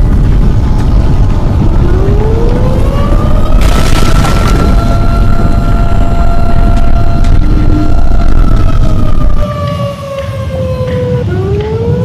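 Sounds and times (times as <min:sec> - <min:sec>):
deep rumble with siren-like tone: 0:00.0 - 0:12.0.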